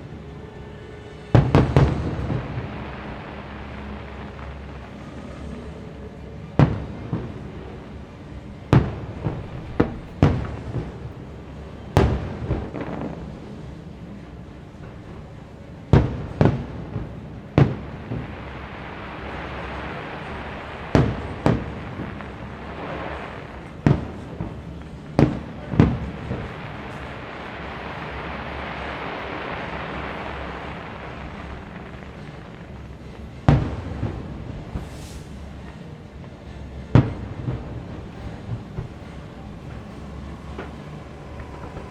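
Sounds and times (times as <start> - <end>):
fireworks bangs with echo: 1.3 - 36.0, 36.8 - 41.9.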